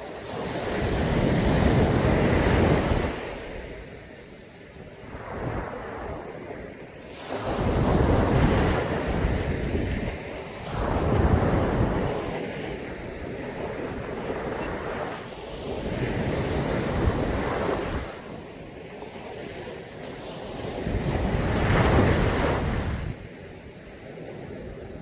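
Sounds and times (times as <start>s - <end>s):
sea waves breaking on beach: 0.0s - 25.0s
wind on microphone: 4.9s - 25.0s.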